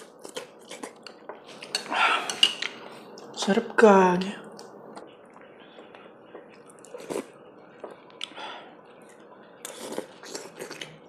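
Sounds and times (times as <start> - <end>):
person chewing food: 0.0 - 3.3, 4.5 - 8.4, 9.0 - 11.0.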